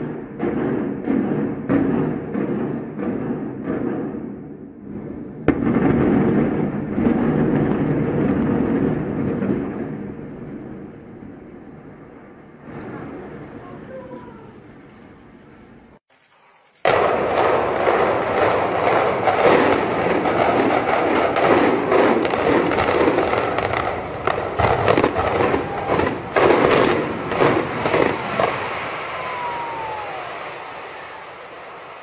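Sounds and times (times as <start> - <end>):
loud demolition blast: 0.0 - 13.8, 16.1 - 32.0.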